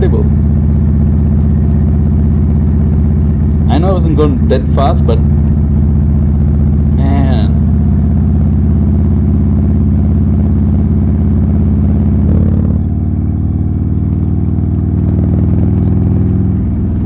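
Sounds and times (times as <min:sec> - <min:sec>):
motorcycle engine running loud: 0:00.0 - 0:17.0.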